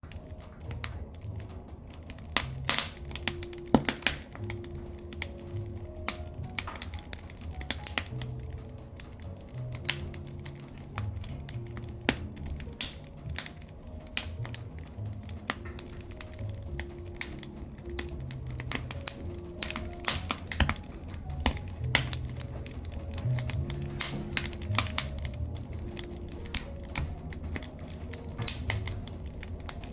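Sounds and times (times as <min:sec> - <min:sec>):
firewood crackling and popping: 0:00.0 - 0:29.9
low rumble of fire: 0:00.0 - 0:29.9.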